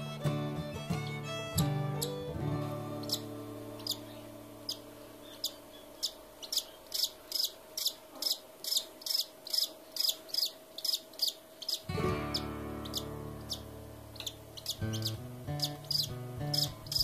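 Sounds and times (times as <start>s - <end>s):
cockatiel chick begging chirps: 3.0s - 17.0s.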